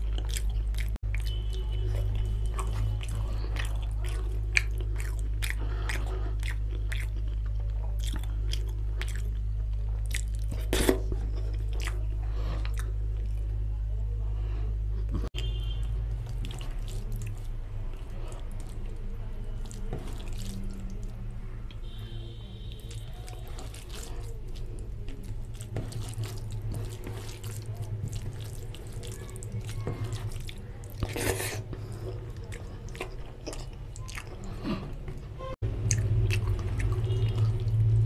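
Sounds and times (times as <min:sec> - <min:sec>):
chewing and mouth clicks: 0:00.0 - 0:13.5, 0:15.0 - 0:22.0, 0:22.7 - 0:38.0
food squishing in fingers: 0:00.0 - 0:13.5, 0:15.0 - 0:22.0, 0:22.6 - 0:38.0.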